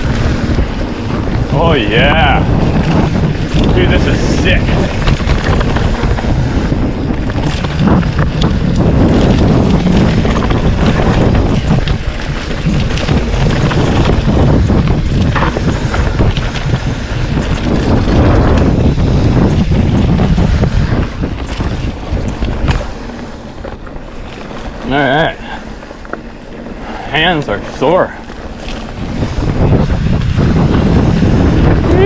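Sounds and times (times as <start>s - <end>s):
rumbling tyre noise: 0.0s - 32.0s
wind rushing over microphone: 0.0s - 32.0s
bike knocks and rattles: 2.4s - 32.0s.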